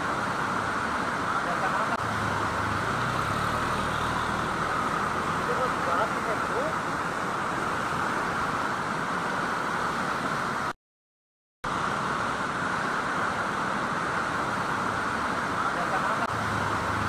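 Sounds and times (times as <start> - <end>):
floodwater rushing: 0.0 - 10.8, 11.7 - 17.0.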